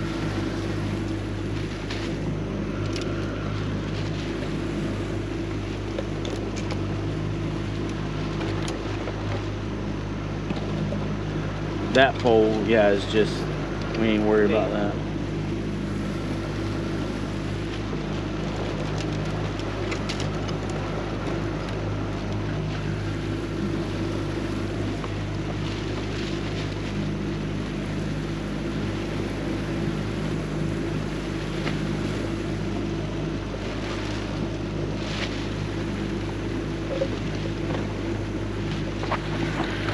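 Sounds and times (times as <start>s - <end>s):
boat engine drone: 0.0s - 39.9s
wind and water rush: 0.0s - 39.9s.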